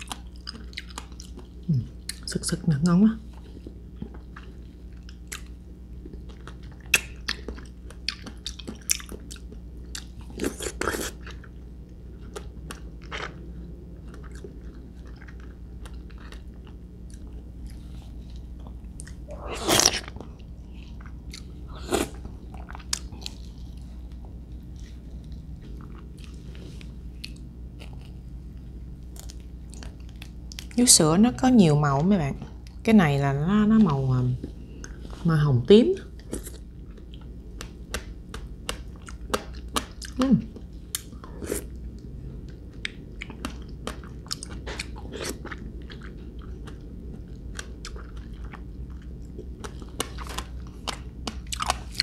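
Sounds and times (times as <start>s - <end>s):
chewing: 0.0s - 2.3s, 3.3s - 28.2s, 36.1s - 52.0s.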